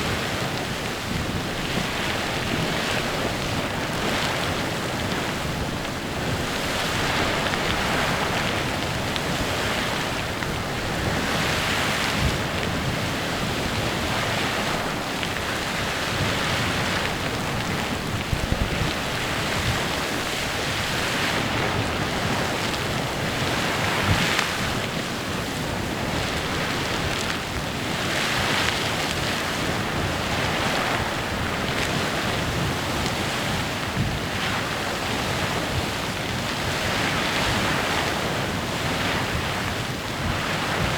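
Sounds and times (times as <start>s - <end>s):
geyser splashing water: 0.0s - 40.9s.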